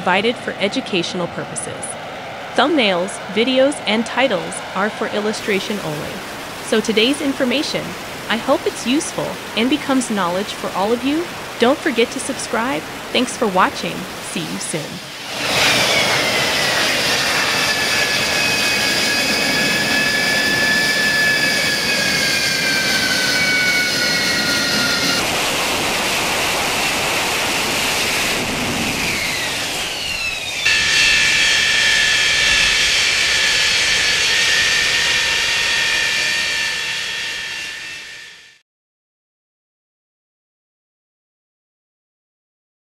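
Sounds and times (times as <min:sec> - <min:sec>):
jet engine whine: 0:00.0 - 0:38.6.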